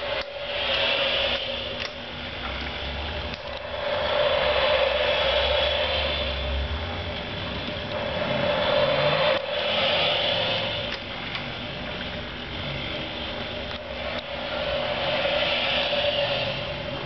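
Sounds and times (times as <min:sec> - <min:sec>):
hiss: 0:00.0 - 0:06.6, 0:08.0 - 0:11.0, 0:12.6 - 0:17.0
small machine humming: 0:00.0 - 0:17.0.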